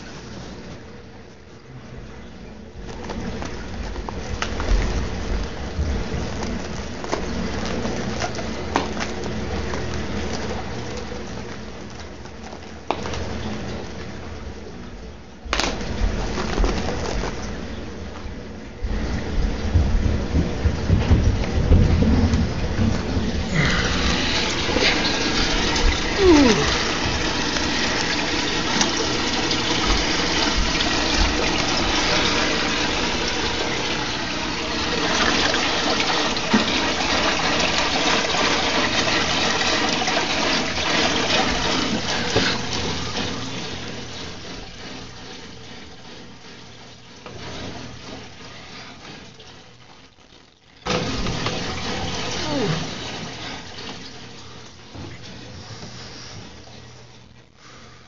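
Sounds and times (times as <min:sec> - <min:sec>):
water splashing in an aquarium: 0:00.0 - 0:58.0.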